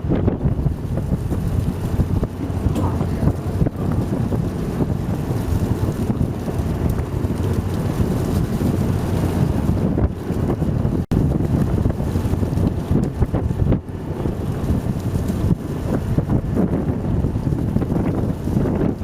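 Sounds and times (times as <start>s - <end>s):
boat rushing through water: 0.0s - 19.0s
wind buffeting microphone: 0.0s - 19.0s.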